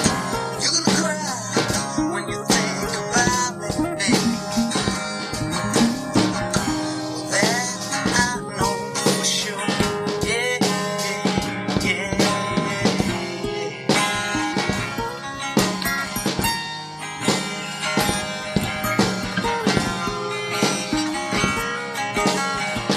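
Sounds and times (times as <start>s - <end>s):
bending lead guitar line: 0.0s - 22.9s
blues-rock band playing: 0.0s - 22.9s.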